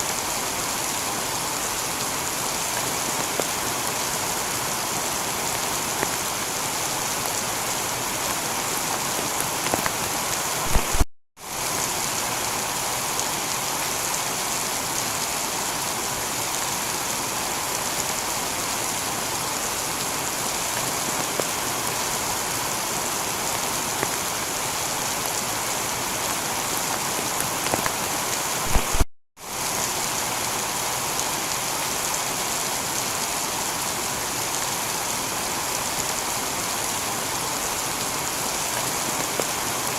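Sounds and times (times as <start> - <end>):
heavy rain on a tiled roof: 0.0 - 39.9.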